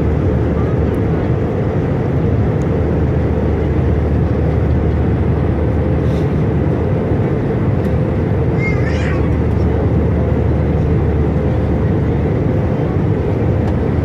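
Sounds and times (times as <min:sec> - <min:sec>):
jet engines and airflow rush: 0:00.0 - 0:14.0.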